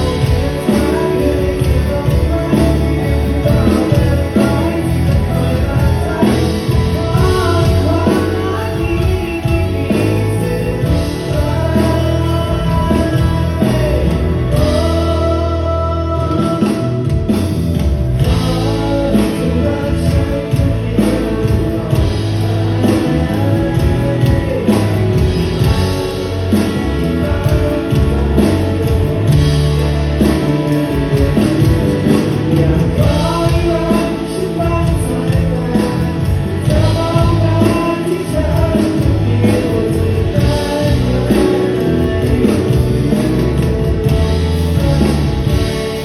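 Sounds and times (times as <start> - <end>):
heavy bass line: 0.0 - 46.0
live band playing: 0.0 - 46.0
person singing: 0.0 - 46.0.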